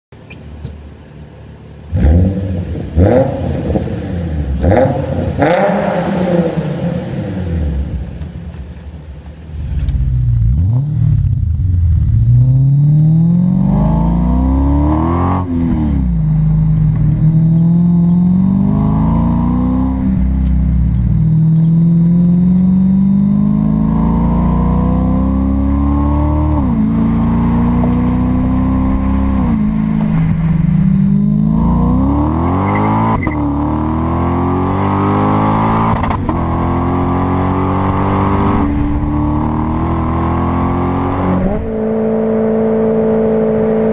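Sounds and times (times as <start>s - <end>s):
car engine revving: 1.8s - 43.9s.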